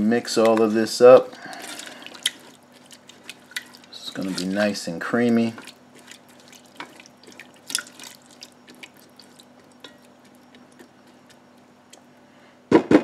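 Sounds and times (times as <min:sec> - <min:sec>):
spatula stirring cream in pot: 0:00.0 - 0:12.1
faint steady hum: 0:00.0 - 0:13.0.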